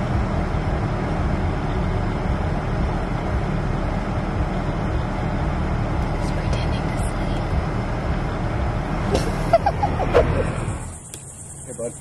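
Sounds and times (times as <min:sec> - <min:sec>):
air conditioning blowing: 0:00.0 - 0:12.0
car cabin rumble: 0:00.0 - 0:12.0.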